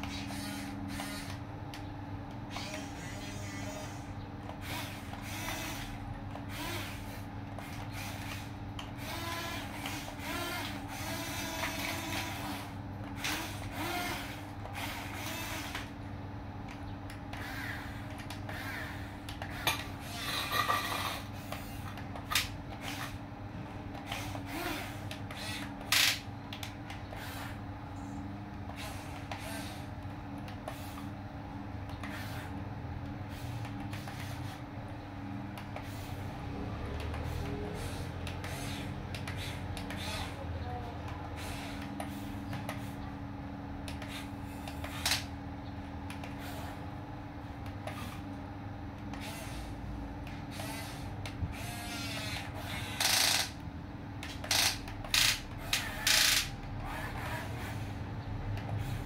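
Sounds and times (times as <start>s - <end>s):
small electric motors whirring: 0.0s - 16.0s, 16.6s - 31.2s, 31.8s - 34.7s, 35.6s - 43.0s, 43.8s - 45.3s, 46.1s - 47.0s, 47.6s - 48.4s, 49.0s - 53.6s, 54.2s - 59.0s.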